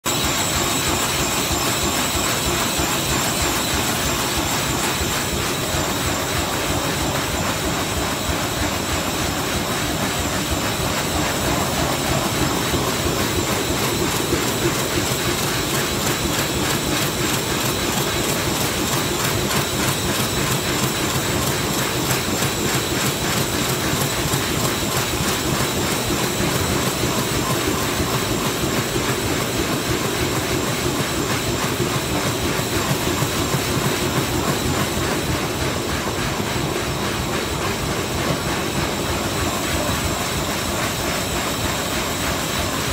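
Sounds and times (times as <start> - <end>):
laminating machine clattering: 0.1 - 42.9.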